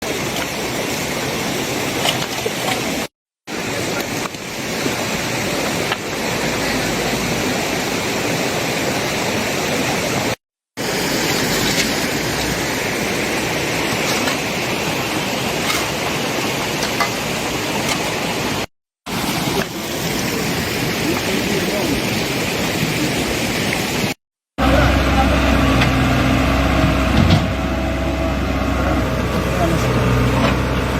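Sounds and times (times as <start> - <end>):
flowing water rushing: 0.0 - 30.9.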